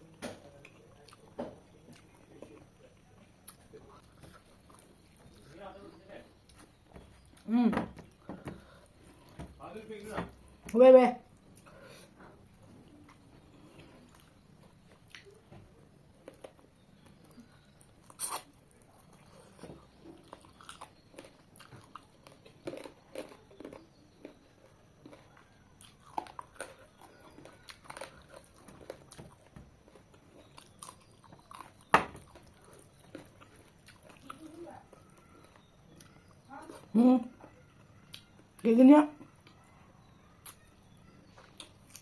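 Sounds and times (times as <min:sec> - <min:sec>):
person chewing food: 0:00.0 - 0:10.7, 0:11.4 - 0:37.0, 0:39.3 - 0:42.0.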